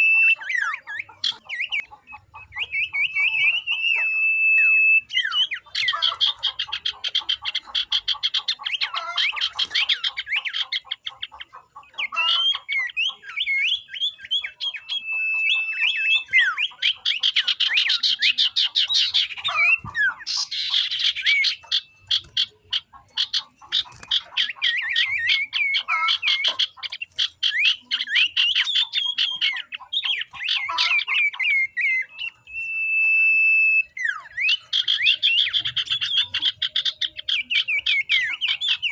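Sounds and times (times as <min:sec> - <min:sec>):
flock of birds chirping: 0:00.0 - 0:38.9.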